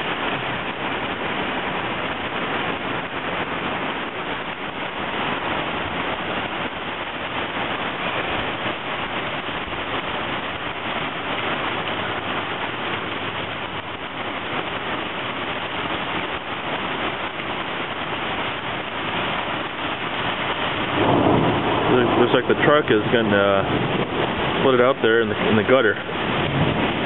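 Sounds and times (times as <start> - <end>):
heavy rain on flooded street: 0.0 - 27.0.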